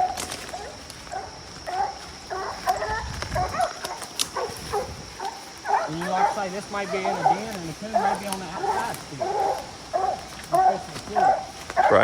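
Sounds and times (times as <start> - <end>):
hound barking: 0.0 - 12.0
wind rumbling on microphone: 0.0 - 12.0.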